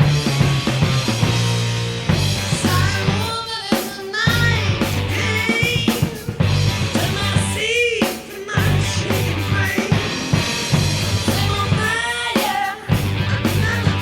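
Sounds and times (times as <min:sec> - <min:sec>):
pop-rock song with singing: 0:00.0 - 0:14.0.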